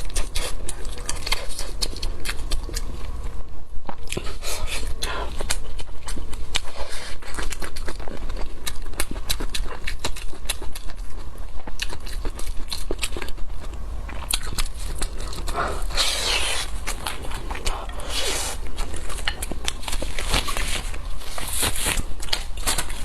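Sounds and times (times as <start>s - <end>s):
chewing and gnawing meat: 0.0s - 3.4s, 4.1s - 23.0s.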